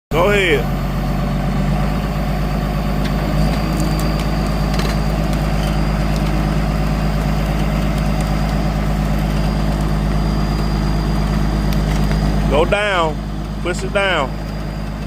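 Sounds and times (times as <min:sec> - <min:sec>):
diesel engine running: 0:00.1 - 0:15.0.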